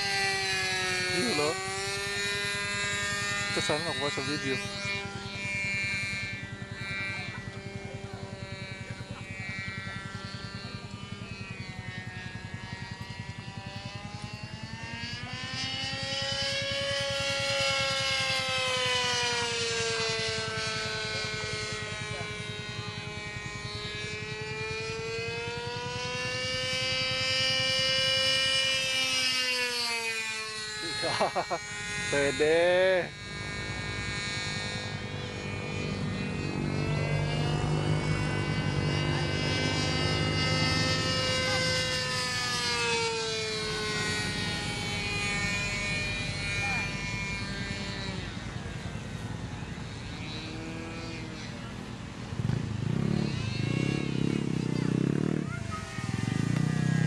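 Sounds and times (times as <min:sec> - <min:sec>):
model airplane engine buzzing: 0:00.0 - 0:57.0.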